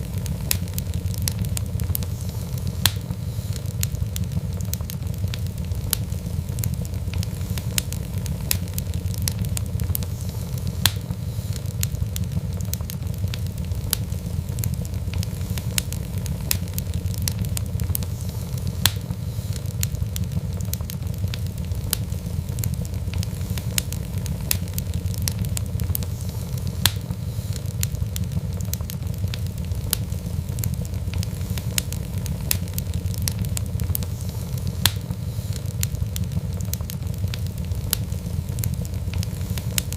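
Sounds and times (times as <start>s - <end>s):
fire popping: 0.0s - 39.9s
low rumble of flame: 0.0s - 39.9s
wood fire crackling: 0.0s - 39.9s.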